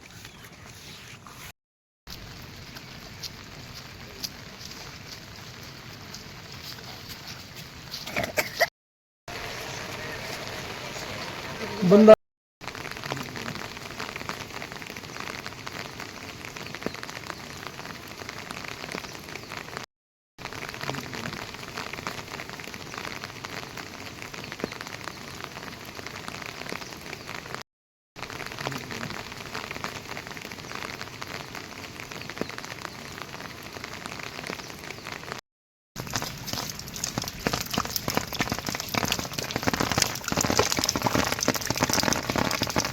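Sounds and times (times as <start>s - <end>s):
steady rain falling: 2.1s - 8.0s, 9.3s - 19.8s, 20.4s - 27.6s, 28.2s - 35.4s, 36.0s - 42.9s.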